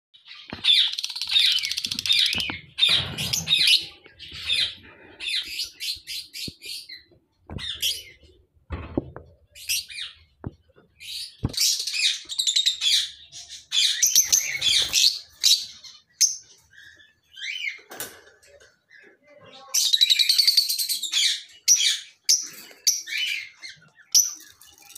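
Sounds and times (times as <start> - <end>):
lovebirds chirping and squawking: 0.2 - 24.9.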